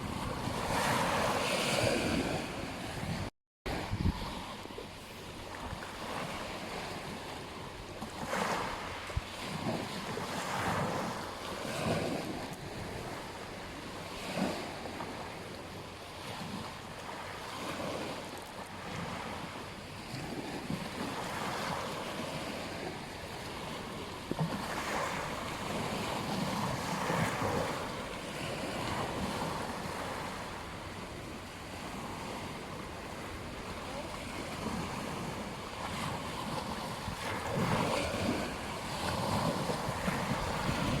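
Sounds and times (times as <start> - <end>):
wind buffeting microphone: 0.0 - 13.5, 18.8 - 41.0
waves breaking on beach: 0.0 - 41.0.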